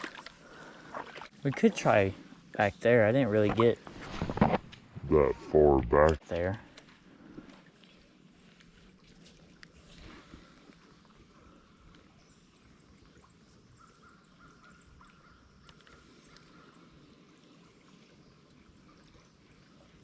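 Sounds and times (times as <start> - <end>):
faint creekside ambience: 0.0 - 20.0.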